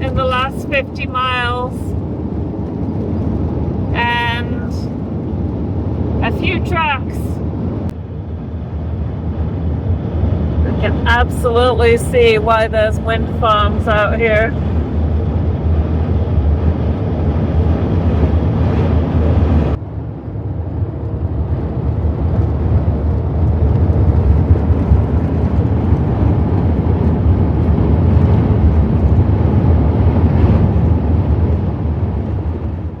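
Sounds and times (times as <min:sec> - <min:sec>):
vehicle road and engine noise: 0:00.0 - 0:33.0.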